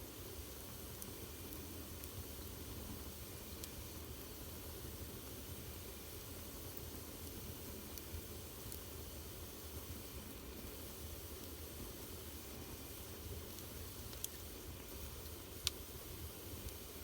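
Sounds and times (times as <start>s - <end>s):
fire crackling pops: 0.0s - 17.0s
fire hissing in fireplace: 0.0s - 17.0s.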